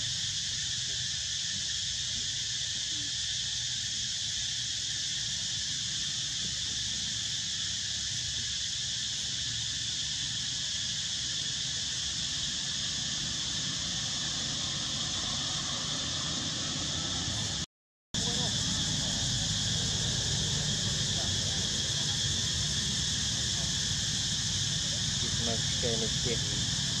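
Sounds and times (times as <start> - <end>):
high insect chorus: 0.0 - 27.0.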